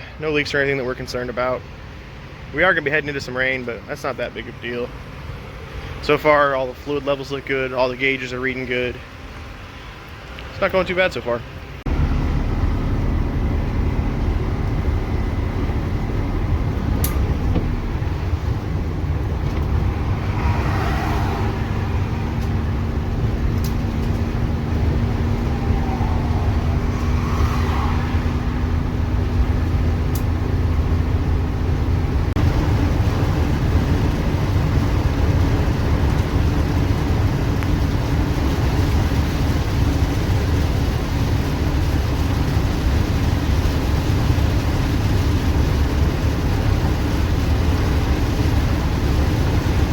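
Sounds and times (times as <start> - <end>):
diesel engine drone: 0.0 - 49.9
road noise: 0.0 - 49.9.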